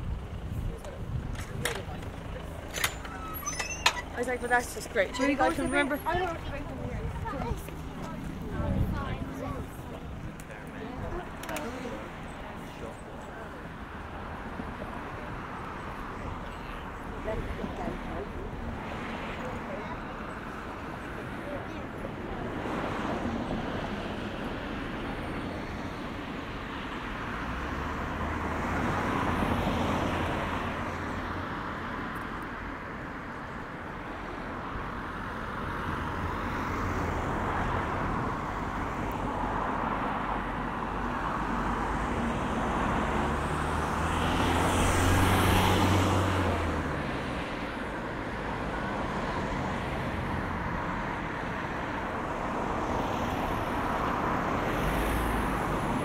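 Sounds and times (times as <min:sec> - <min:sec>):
cars passing slowly: 0:00.0 - 0:56.0.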